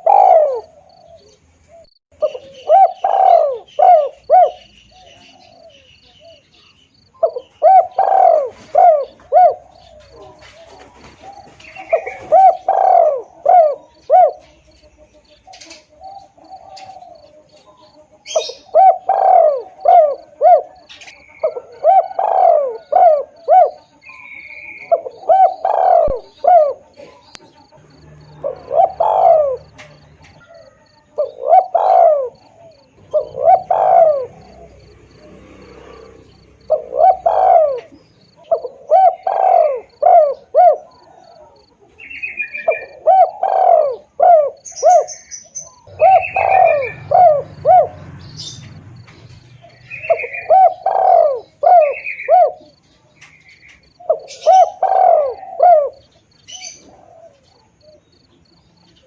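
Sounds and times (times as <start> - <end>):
high bird chirps: 0.0 - 35.3, 35.9 - 59.0
dove cooing: 0.0 - 59.0
faint insect chirring: 0.0 - 59.0.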